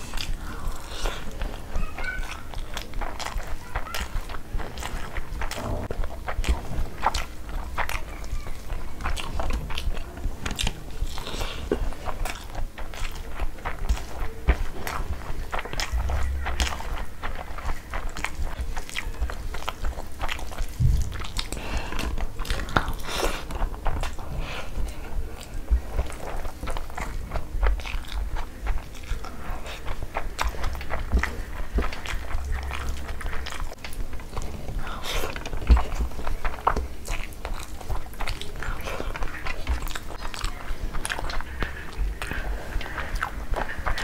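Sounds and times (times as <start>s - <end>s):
chewing and lip smacking: 0.0s - 44.0s
wet squelches of fingers in food: 0.0s - 44.0s.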